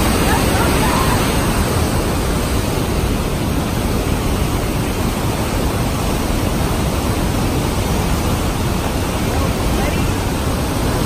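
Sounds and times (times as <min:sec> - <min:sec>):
water rushing and churning: 0:00.0 - 0:11.0.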